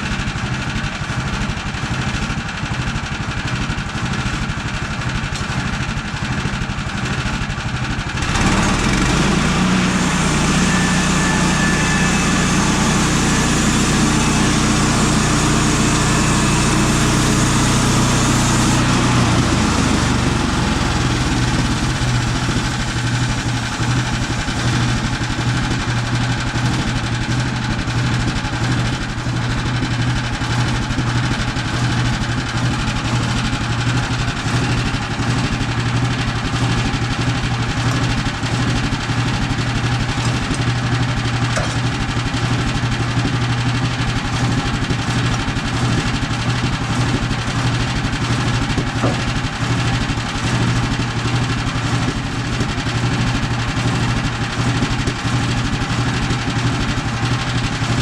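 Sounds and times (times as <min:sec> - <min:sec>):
sawmill engine humming: 0:08.1 - 0:29.3, 0:30.3 - 0:58.0.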